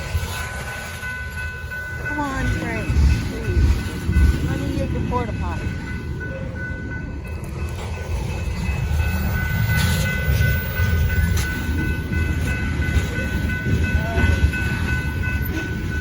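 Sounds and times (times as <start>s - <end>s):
freight train rumbling past: 0.0s - 16.0s
wheels clickety-clack on rails: 0.0s - 16.0s.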